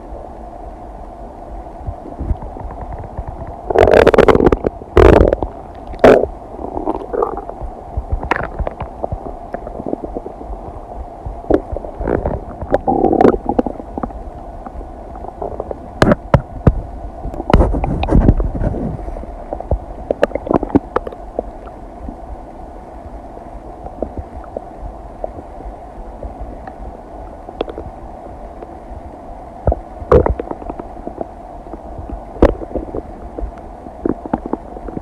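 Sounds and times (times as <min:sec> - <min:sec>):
stomach gurgling: 0:01.8 - 0:22.2, 0:23.8 - 0:28.8, 0:29.6 - 0:35.0.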